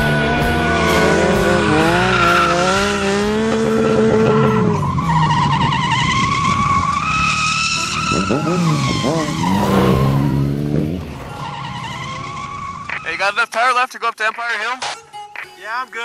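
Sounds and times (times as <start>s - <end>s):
motorcycle engines revving: 0.0s - 13.2s
tyres skidding and squealing: 0.0s - 15.2s.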